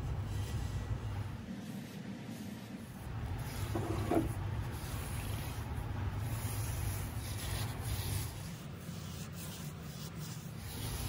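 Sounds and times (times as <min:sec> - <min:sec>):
paintbrush scrubbing metal: 0:00.0 - 0:11.0
steady low hum: 0:00.0 - 0:11.0.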